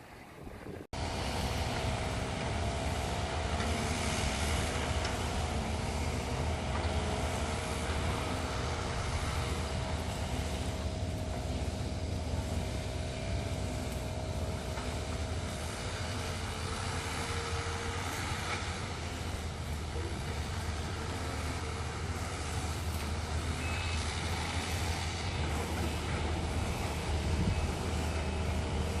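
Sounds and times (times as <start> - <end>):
excavator diesel engine running: 1.0 - 29.0.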